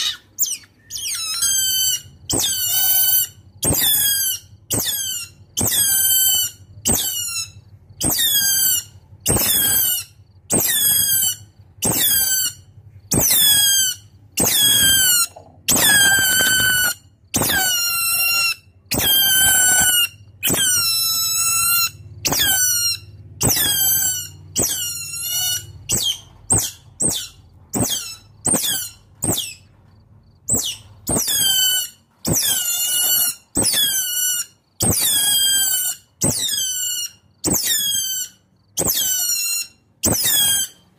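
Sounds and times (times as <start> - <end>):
otter squealing calls: 0.0 - 29.7, 30.5 - 40.9.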